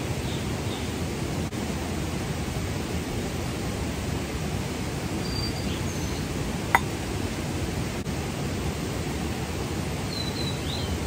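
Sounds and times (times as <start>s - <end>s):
stream rushing: 0.0s - 10.2s.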